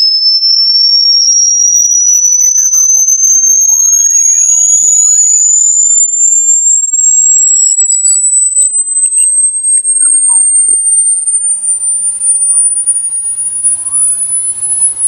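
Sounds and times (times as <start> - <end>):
high-pitched rising tone: 0.0 - 15.0.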